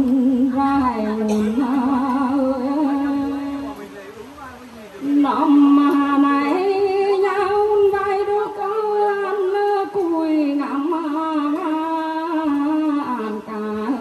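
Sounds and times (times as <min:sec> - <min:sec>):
woman singing through loudspeaker: 0:00.0 - 0:03.9, 0:05.0 - 0:14.0.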